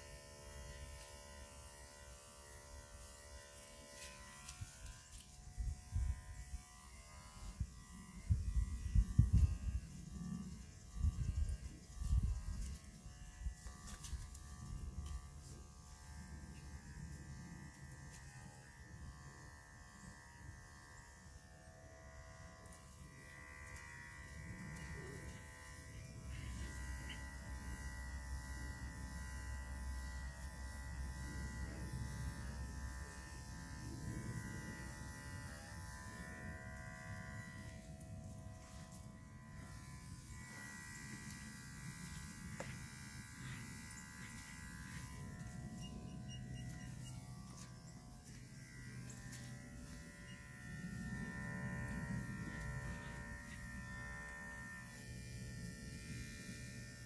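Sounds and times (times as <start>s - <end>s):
electric clippers buzzing: 0.0s - 57.0s.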